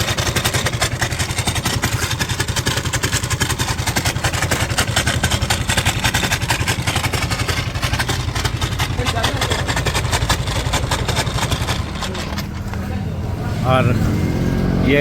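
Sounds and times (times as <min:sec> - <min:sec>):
scooter engine idling with clatter: 0:00.0 - 0:15.0.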